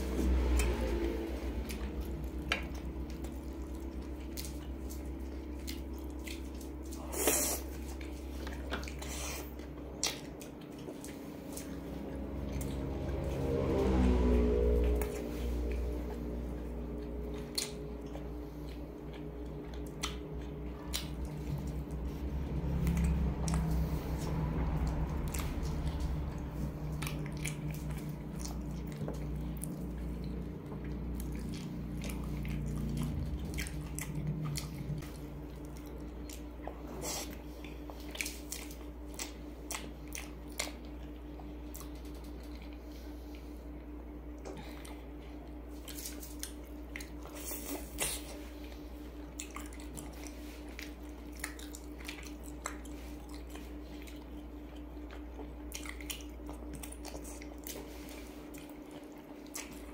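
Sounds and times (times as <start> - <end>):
chewing with wet mouth clicks: 0.0 - 59.9
low hum: 0.0 - 59.9.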